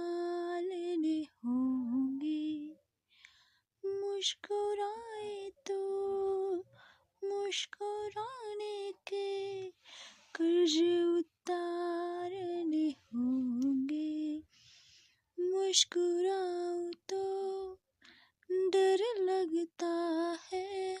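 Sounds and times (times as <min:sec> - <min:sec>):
woman singing unaccompanied: 0:00.0 - 0:02.8, 0:03.8 - 0:14.5, 0:15.4 - 0:17.8, 0:18.4 - 0:21.0.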